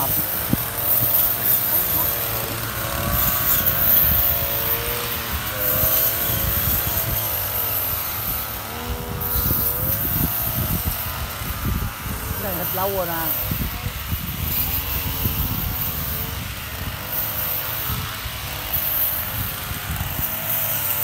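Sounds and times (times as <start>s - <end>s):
brush cutter engine cutting grass: 0.0s - 21.0s.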